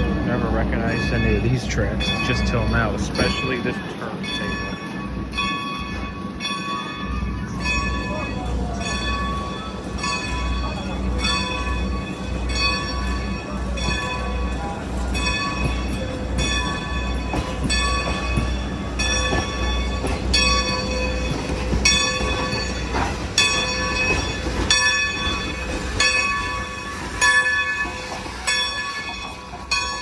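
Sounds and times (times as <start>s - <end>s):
locomotive bell ringing: 0.0s - 30.0s.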